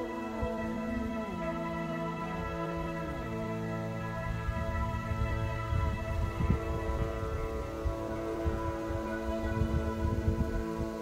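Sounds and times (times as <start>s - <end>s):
music of sustained held chords: 0.0s - 11.0s.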